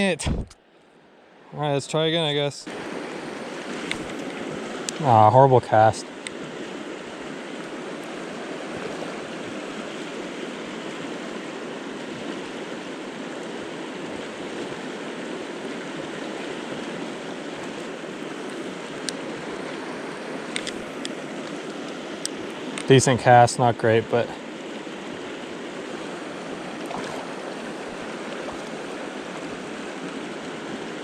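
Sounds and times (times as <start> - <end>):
river water rushing over rocks: 2.7 - 23.0, 24.1 - 31.0.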